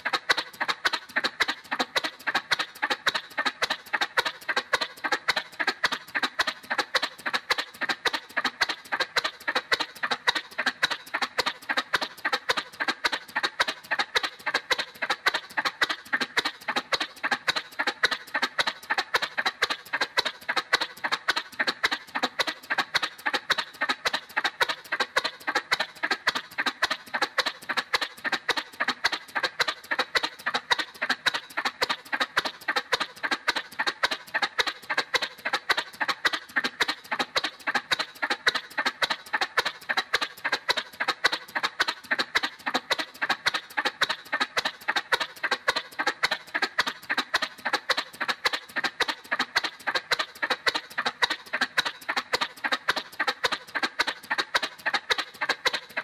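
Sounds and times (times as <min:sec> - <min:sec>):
cartoon motorcycle putt-putt: 0:00.0 - 0:56.0.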